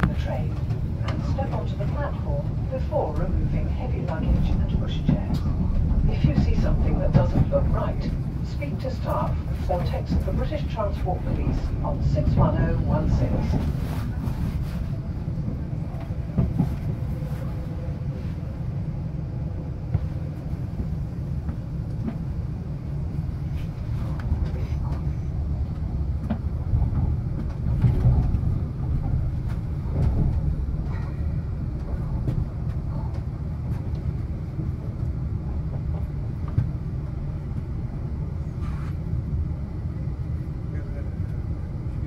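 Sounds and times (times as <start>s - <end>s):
train wheels rumbling on track: 0.0s - 42.0s.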